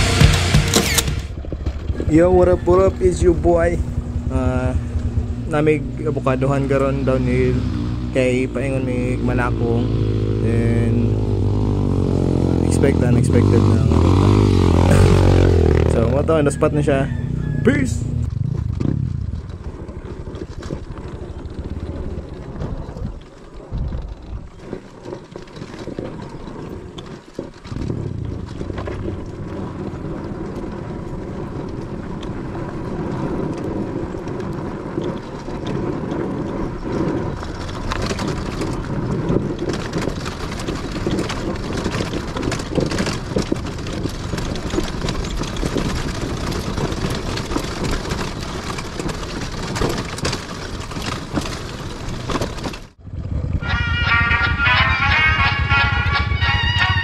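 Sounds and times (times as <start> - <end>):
dirt bike engine running: 0.0 - 57.0
wind noise on microphone: 0.8 - 57.0.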